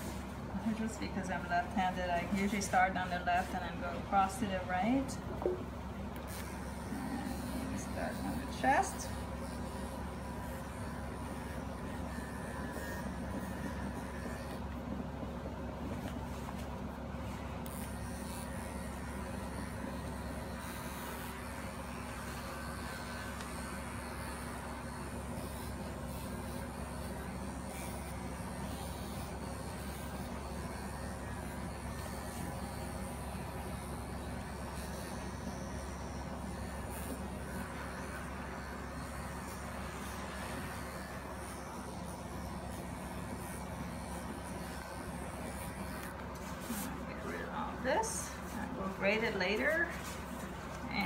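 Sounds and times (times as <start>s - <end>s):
electric clippers humming: 0.0s - 51.0s.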